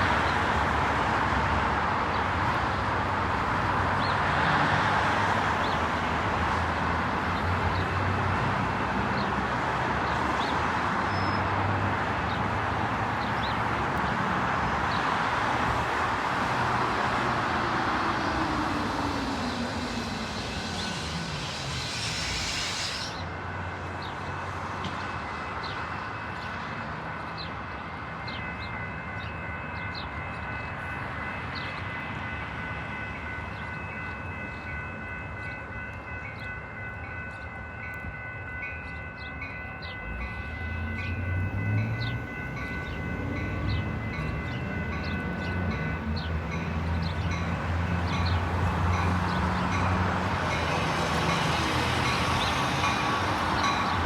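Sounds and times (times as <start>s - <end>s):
train engine passing: 0.0s - 54.0s
train rumbling: 0.0s - 54.0s.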